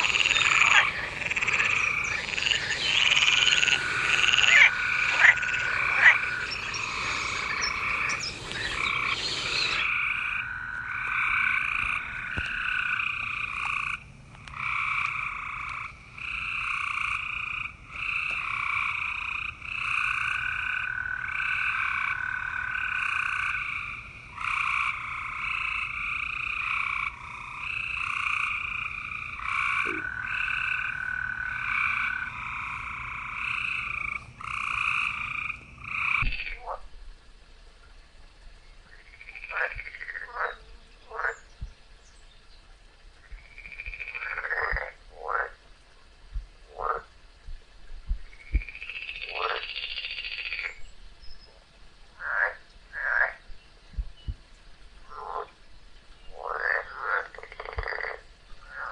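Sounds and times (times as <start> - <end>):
frogs calling: 0.0 - 36.9, 38.6 - 41.7, 43.2 - 45.6, 46.6 - 47.2, 48.2 - 54.4, 55.0 - 58.9.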